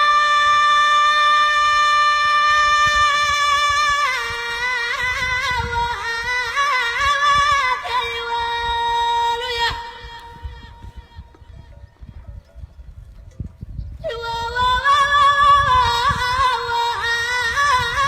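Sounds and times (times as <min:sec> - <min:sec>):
person singing unaccompanied chant: 0:00.0 - 0:11.8, 0:14.0 - 0:18.0.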